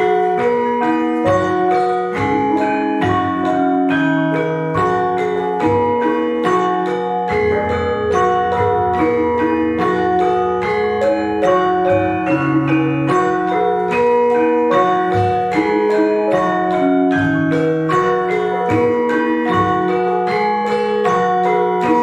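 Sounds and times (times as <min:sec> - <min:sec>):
bronze metallophones and gong-chimes: 0:00.0 - 0:22.0
gamelan playing: 0:00.0 - 0:22.0.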